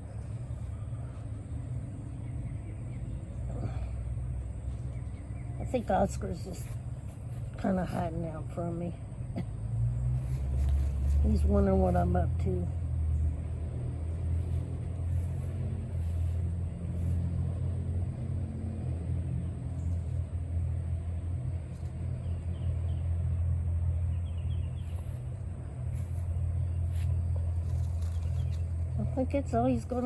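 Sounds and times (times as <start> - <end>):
low mechanical rumble: 0.0 - 30.0.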